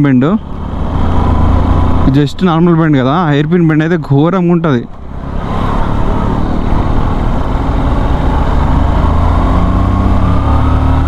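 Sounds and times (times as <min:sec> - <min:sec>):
wind and road noise: 0:00.0 - 0:11.0
motorcycle engine running: 0:00.4 - 0:03.5, 0:04.9 - 0:11.0.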